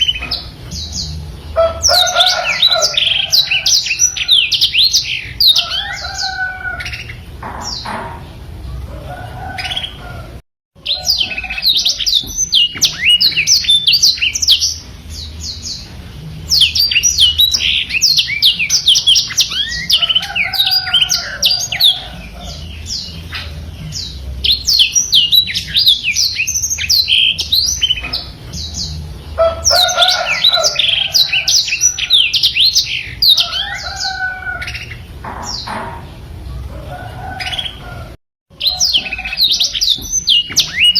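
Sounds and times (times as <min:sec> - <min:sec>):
canary singing chirps and trills: 0:00.0 - 0:40.9.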